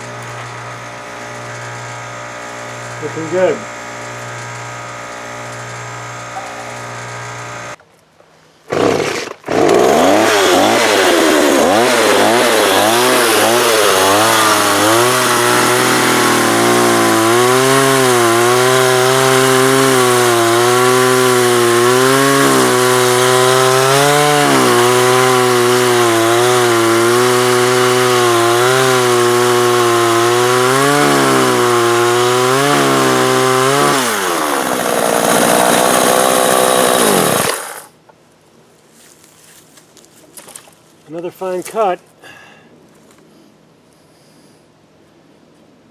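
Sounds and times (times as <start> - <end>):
chainsaw revving and cutting wood: 0.0 - 7.8, 8.7 - 38.0.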